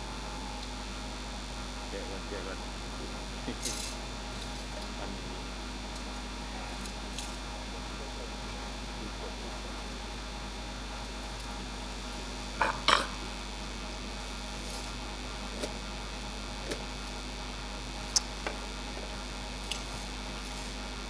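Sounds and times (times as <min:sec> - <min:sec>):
background hiss and hum: 0:00.0 - 0:21.0.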